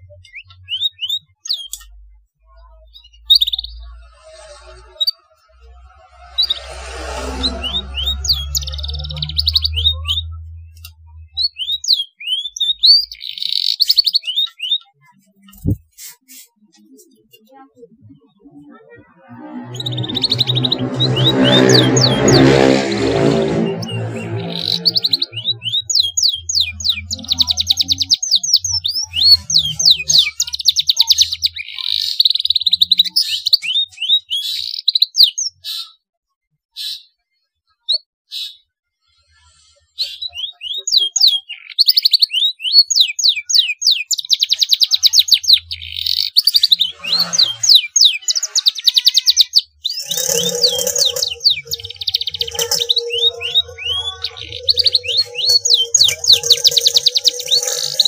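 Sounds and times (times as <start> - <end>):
canary singing trills: 0.0 - 15.8, 17.0 - 36.0, 40.0 - 58.0.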